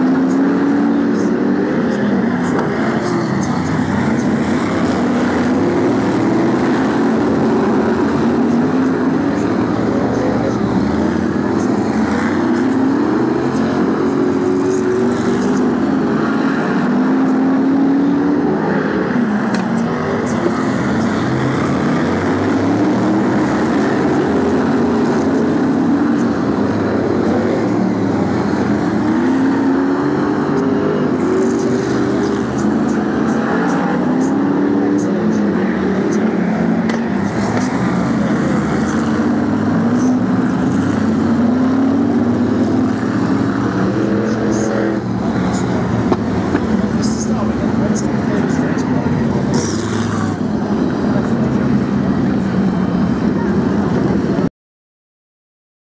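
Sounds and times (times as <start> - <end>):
race car engines revving: 0.0 - 54.5.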